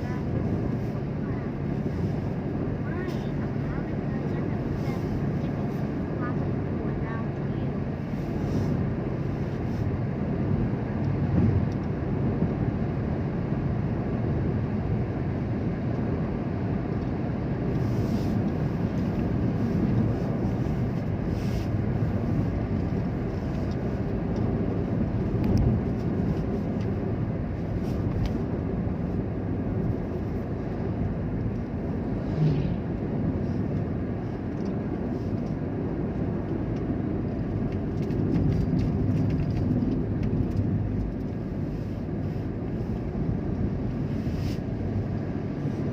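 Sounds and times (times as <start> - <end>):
vehicle rumbling on road: 0.0 - 45.9.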